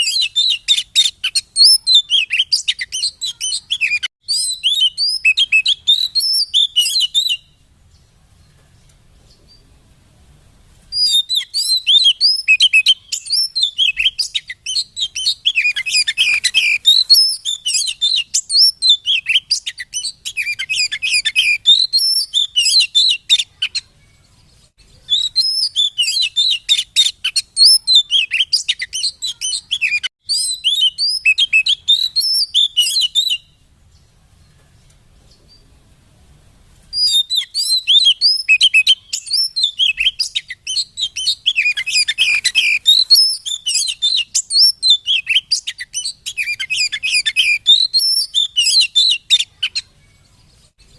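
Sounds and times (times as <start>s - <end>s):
bird singing chirps and whistles: 0.0s - 8.1s, 10.9s - 34.0s, 36.9s - 50.9s.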